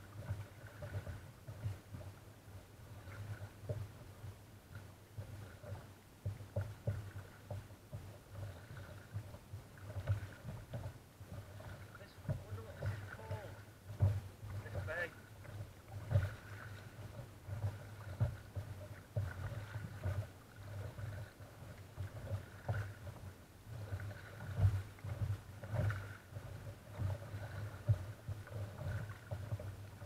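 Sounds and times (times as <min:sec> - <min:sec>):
water lapping against kayak hull: 0:00.0 - 0:30.0
low knocks on hull: 0:05.3 - 0:30.0.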